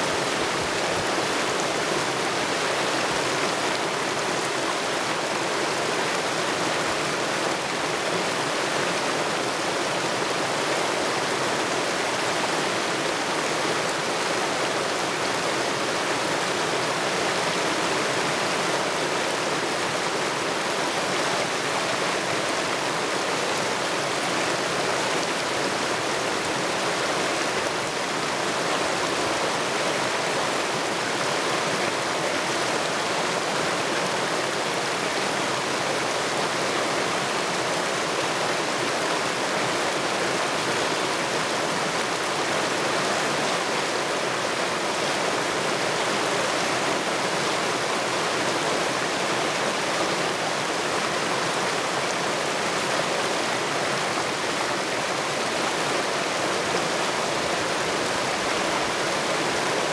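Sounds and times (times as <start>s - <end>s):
creek water rushing and splashing: 0.0s - 59.9s.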